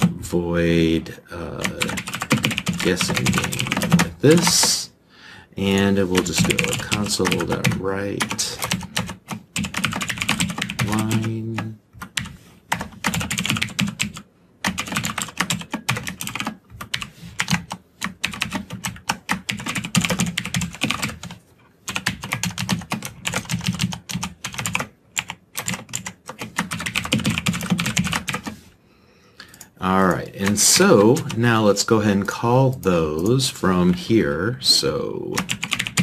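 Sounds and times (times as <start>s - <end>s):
fast keyboard typing: 1.5s - 4.8s, 5.7s - 28.6s, 29.5s - 33.3s, 35.2s - 36.0s.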